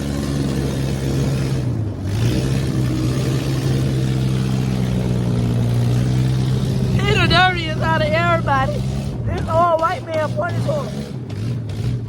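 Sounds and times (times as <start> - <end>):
dune buggy engine running: 0.0 - 12.0.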